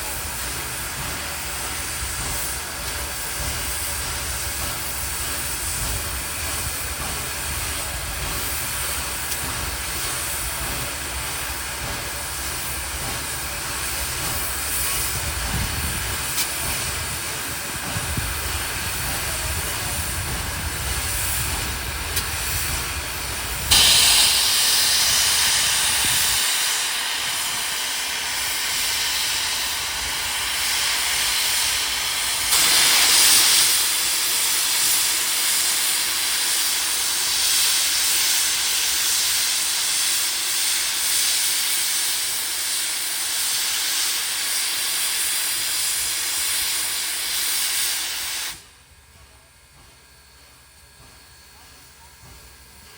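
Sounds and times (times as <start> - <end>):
loud steam hiss: 0.0 - 52.9
train rumbling: 0.0 - 52.9.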